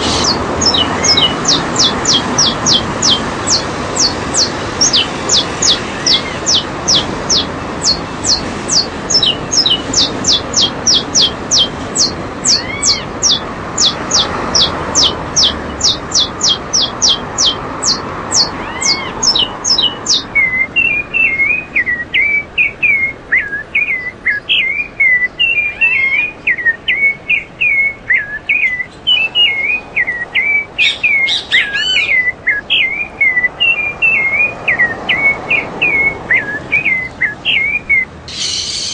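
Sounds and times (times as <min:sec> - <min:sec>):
bird warbling song: 0:00.0 - 0:38.9
songbirds whistling: 0:00.0 - 0:38.9.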